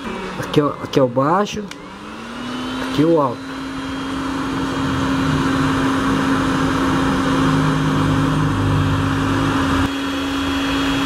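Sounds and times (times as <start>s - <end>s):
heat gun fan humming: 0.0s - 11.0s.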